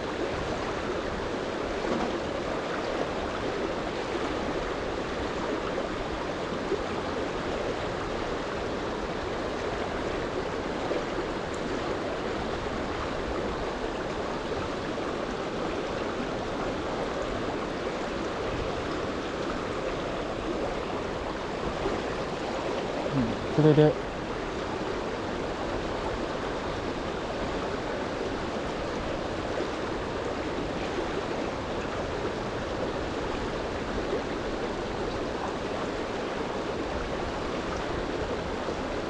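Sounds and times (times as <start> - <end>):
river flowing over stones: 0.0 - 39.0.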